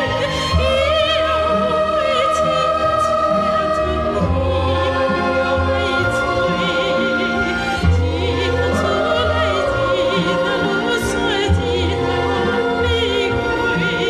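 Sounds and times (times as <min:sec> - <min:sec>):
orchestral accompaniment: 0:00.0 - 0:14.0
woman singing with vibrato: 0:00.0 - 0:14.0.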